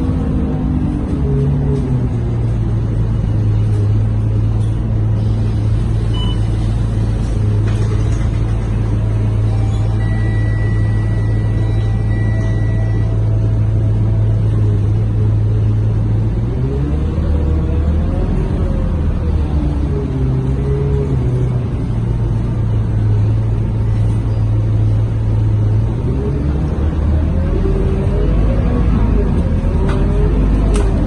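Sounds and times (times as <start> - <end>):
bus diesel engine running: 0.0 - 31.0
road noise: 0.0 - 31.0.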